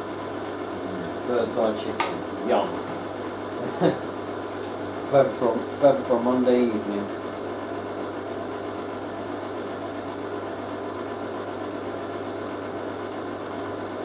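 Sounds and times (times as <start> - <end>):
low mains hum: 0.0 - 14.0
washing machine running: 0.0 - 14.0.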